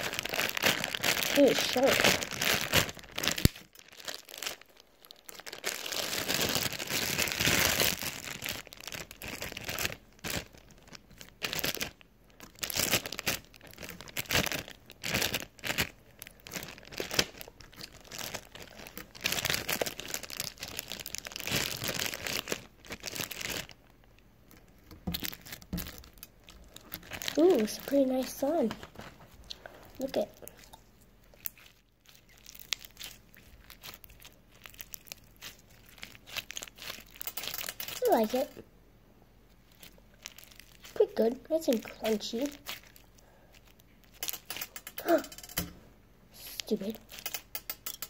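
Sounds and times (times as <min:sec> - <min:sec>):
packaging tearing: 0:00.0 - 0:23.8, 0:24.8 - 0:29.2, 0:31.4 - 0:38.6, 0:39.7 - 0:41.0, 0:41.7 - 0:45.6, 0:47.0 - 0:47.9
plastic packaging crinkling: 0:00.0 - 0:38.6, 0:39.5 - 0:45.8, 0:46.6 - 0:48.0.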